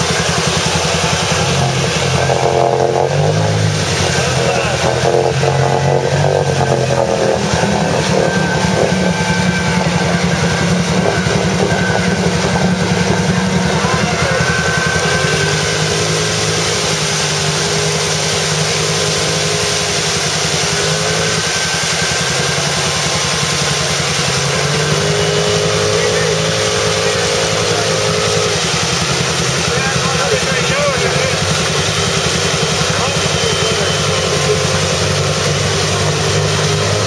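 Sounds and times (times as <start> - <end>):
atv engine under heavy load: 0.0 - 37.0.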